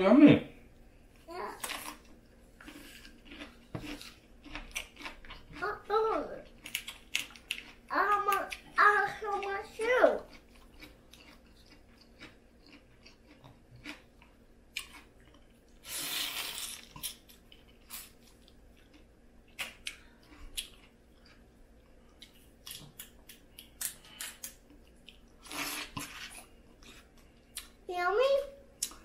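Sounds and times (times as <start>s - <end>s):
chewing: 1.6s - 27.8s.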